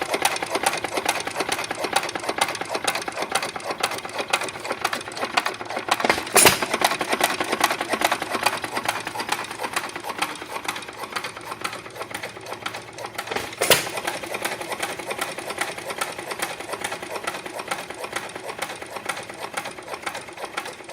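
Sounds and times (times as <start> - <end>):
engine mechanical clatter: 0.0 - 20.9.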